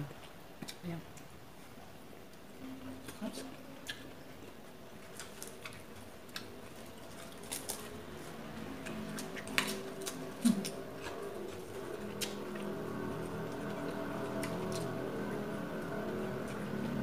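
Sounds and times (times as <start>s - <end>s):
chewing: 0.1s - 17.0s.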